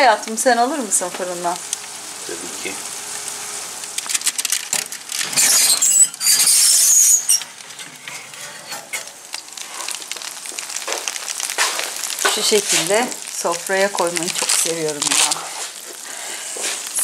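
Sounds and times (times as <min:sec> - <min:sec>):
baking tray sizzling: 0:00.0 - 0:17.0.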